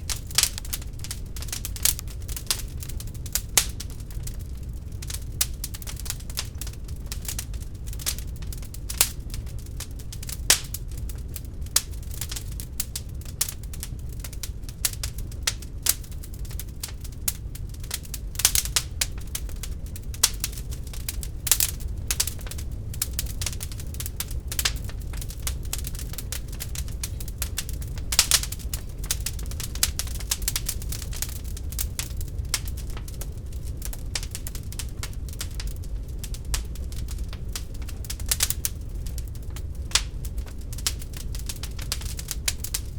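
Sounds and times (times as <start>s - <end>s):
fire crackling and popping: 0.0s - 42.9s
low rumble of flames: 0.0s - 42.9s.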